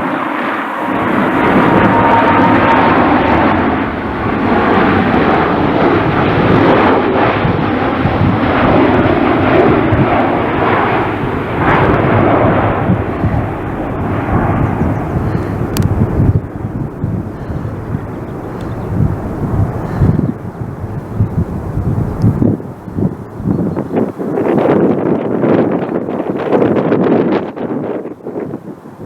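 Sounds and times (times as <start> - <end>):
faint jet engine whine: 0.0 - 29.0
jet airliner landing rumble: 0.0 - 29.0.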